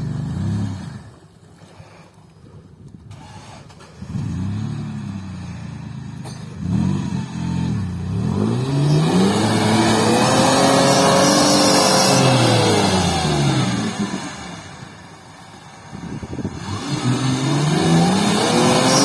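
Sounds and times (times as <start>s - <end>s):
off-road vehicle engine revving: 0.0s - 1.3s, 3.1s - 19.0s.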